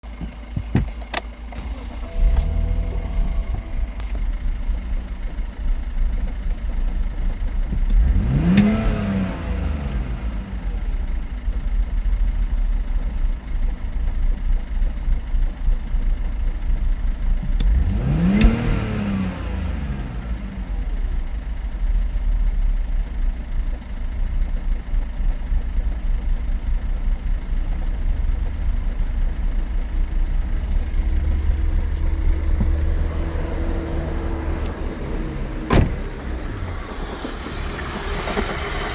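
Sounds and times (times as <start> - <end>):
car engine idling: 0.0 - 38.9
car engine revving: 1.5 - 13.8, 17.3 - 23.4, 25.8 - 38.9.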